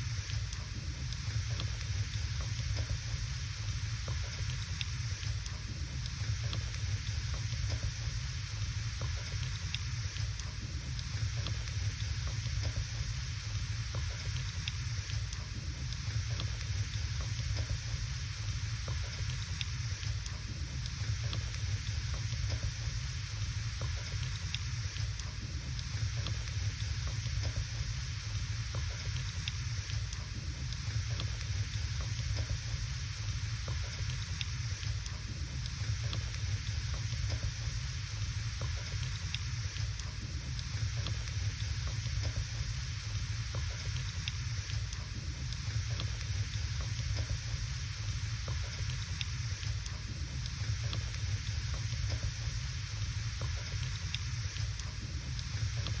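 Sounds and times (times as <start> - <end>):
fire hiss and rumble: 0.0 - 56.0
wood fire crackling: 0.1 - 56.0.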